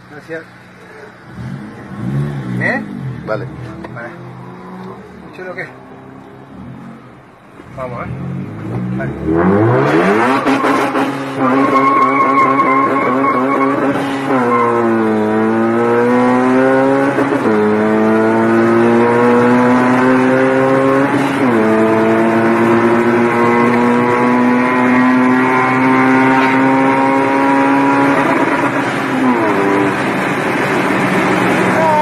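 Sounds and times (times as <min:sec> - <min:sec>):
car engine accelerating: 0:00.3 - 0:32.0.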